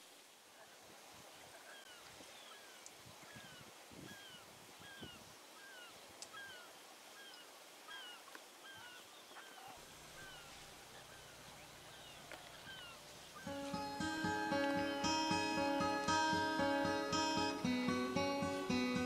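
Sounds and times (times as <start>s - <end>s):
faint bird calls: 0.6s - 17.6s.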